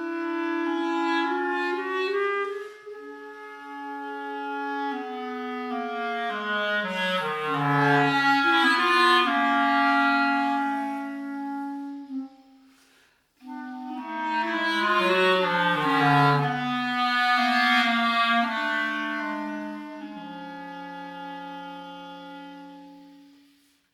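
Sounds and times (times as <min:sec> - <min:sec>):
clarinet playing slow notes: 0:00.0 - 0:23.8.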